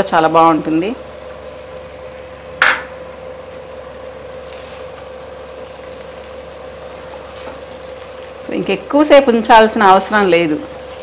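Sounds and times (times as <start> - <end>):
curry frying in a pan: 0.0 - 11.0
steady hum: 0.0 - 11.0.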